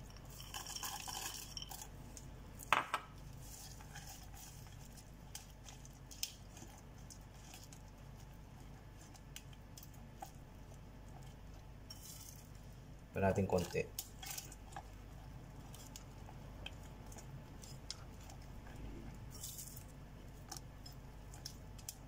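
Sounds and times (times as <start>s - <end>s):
stirring batter in glass bowl: 0.0s - 22.0s.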